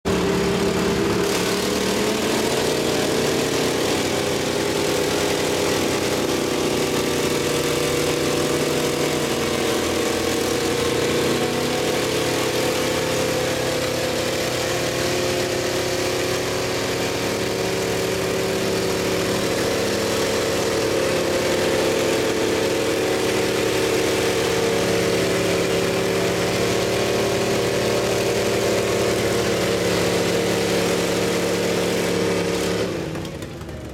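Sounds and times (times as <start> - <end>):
pickup truck engines under load: 0.0 - 33.9.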